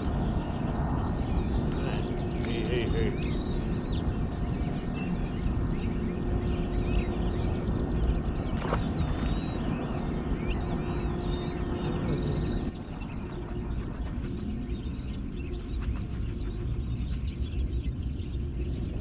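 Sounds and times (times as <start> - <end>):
birds chirping and calling: 0.0 - 19.0
faint steady hum: 0.0 - 19.0.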